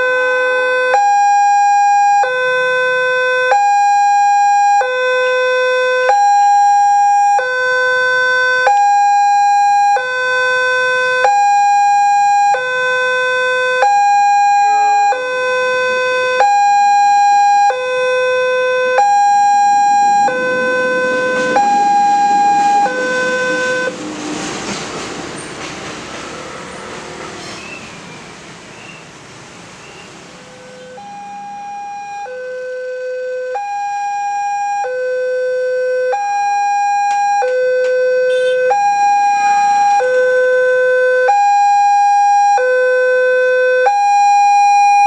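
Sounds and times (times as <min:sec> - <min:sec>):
level crossing two-tone alarm: 0:00.0 - 0:24.5, 0:30.4 - 0:45.0
road traffic noise: 0:00.0 - 0:33.7, 0:35.3 - 0:44.0.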